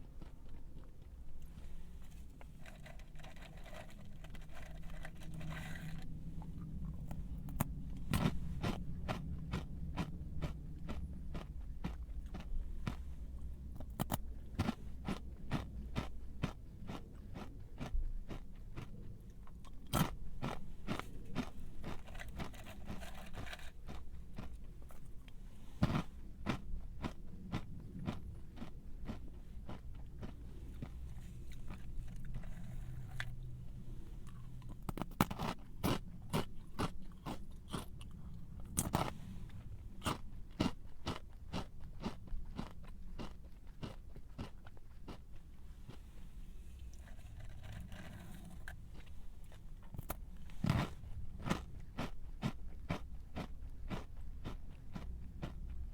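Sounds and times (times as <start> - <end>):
crunchy snack being chewed: 0.0 - 46.2, 46.8 - 55.9.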